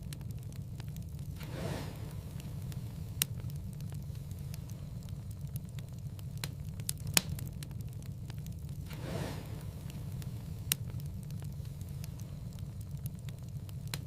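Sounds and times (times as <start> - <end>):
fire crackles and pops: 0.0 - 14.0
fire flames rumbling: 0.0 - 14.0
soft hiss of fire: 0.0 - 14.0.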